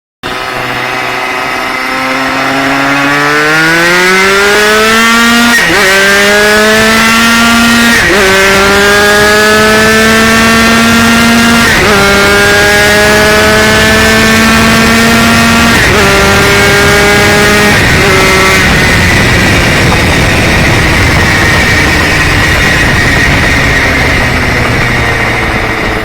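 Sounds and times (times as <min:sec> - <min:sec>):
two-stroke engine accelerating: 0:00.2 - 0:26.0.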